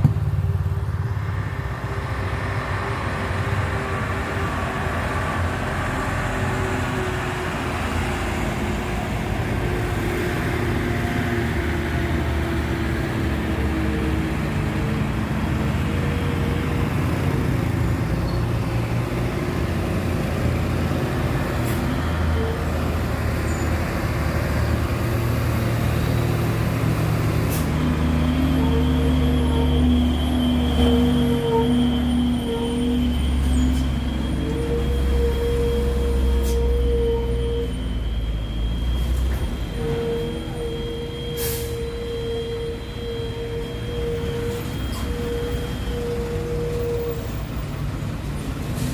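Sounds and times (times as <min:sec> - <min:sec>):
heavy truck engines droning: 0:00.0 - 0:48.9
road noise: 0:00.0 - 0:48.9.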